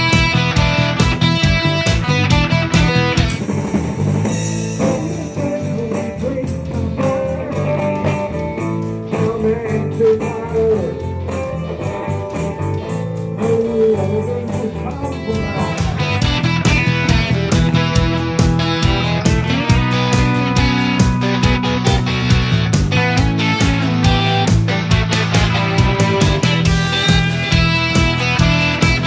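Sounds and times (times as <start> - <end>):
guitar music: 0.0 - 29.0.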